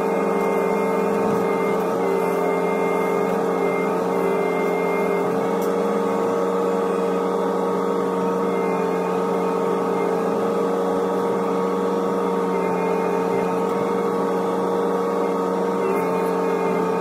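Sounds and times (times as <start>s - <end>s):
excavator engine and hydraulics hum: 0.0s - 17.0s.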